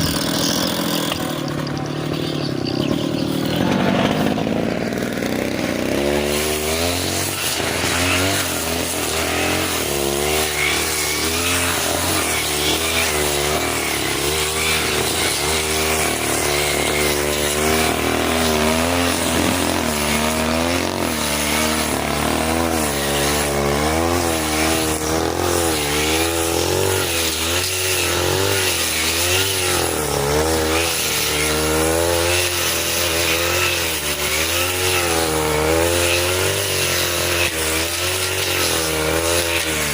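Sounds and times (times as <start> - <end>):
brush cutter cutting grass: 0.0 - 39.9.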